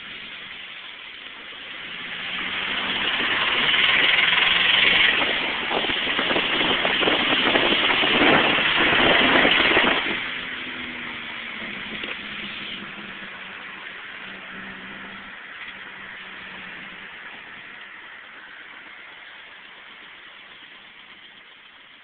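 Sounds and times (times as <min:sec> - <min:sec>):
car engine with lifter tick: 0:00.1 - 0:22.0.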